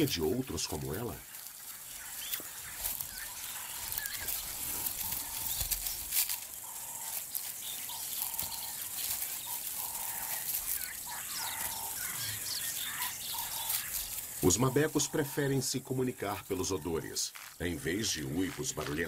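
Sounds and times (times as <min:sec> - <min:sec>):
high chirping calls: 0:00.0 - 0:19.0
rustling of dry grass: 0:00.0 - 0:19.0.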